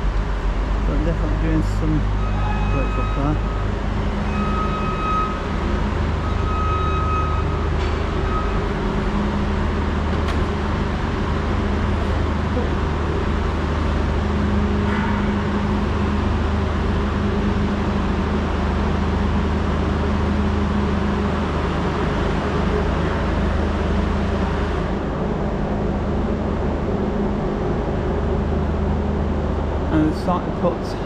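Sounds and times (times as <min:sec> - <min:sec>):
engine hum: 0:00.0 - 0:31.0.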